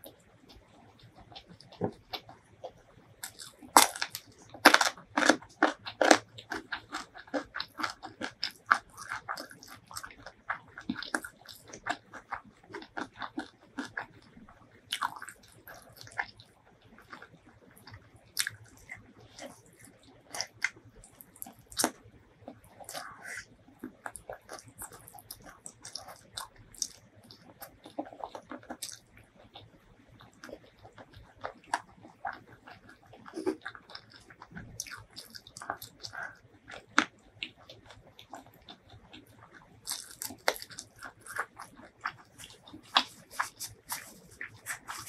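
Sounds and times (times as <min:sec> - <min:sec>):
crunching and chewing cucumber: 0:00.1 - 0:45.0.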